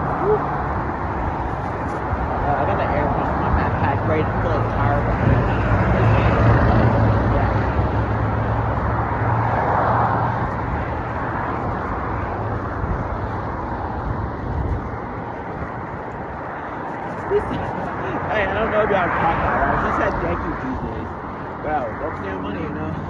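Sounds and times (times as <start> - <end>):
street traffic engine hum: 0.0 - 23.0.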